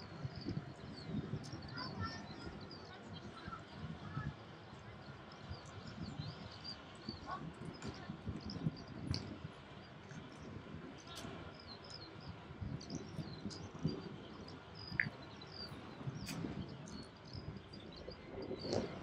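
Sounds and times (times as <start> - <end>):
low outdoor background noise: 0.0 - 19.0
small birds chirping: 0.0 - 19.0.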